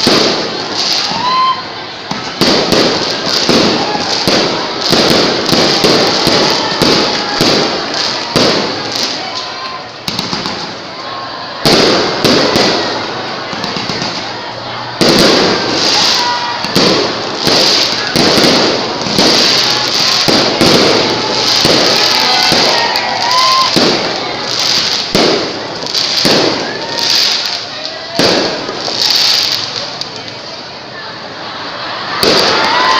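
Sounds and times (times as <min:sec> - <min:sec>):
fireworks bangs with crackling: 0:00.0 - 0:30.6, 0:32.2 - 0:32.9.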